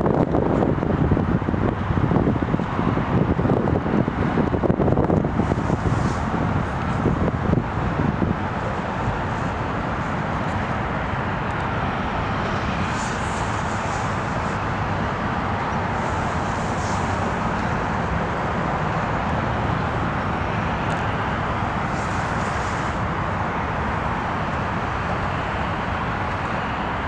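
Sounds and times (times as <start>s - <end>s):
distant diesel locomotives rumbling: 0.0s - 27.0s
road traffic noise: 0.0s - 27.0s.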